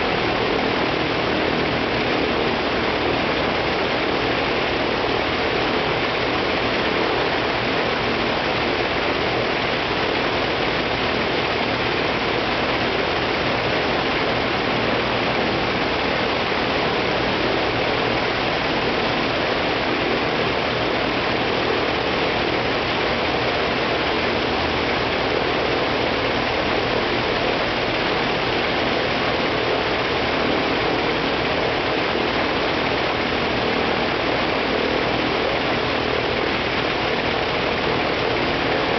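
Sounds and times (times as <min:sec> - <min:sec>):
radial aircraft engine running: 0:00.0 - 0:38.9.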